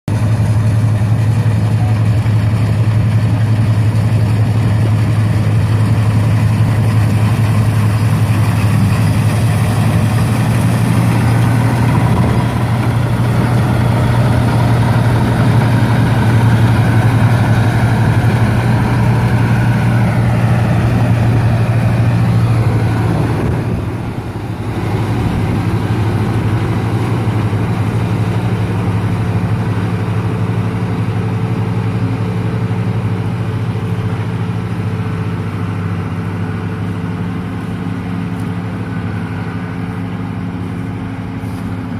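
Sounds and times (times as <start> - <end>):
farm machine engine running: 0.1 - 41.9.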